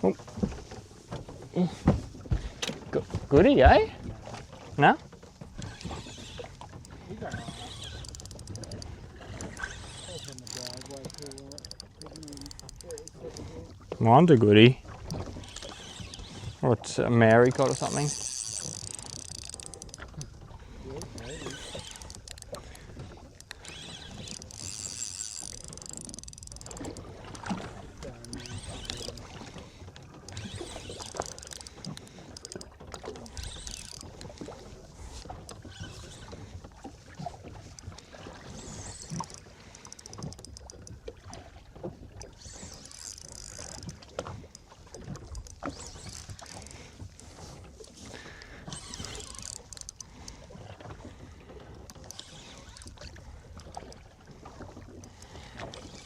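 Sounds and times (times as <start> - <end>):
water slapping against hull: 0.0 - 56.0.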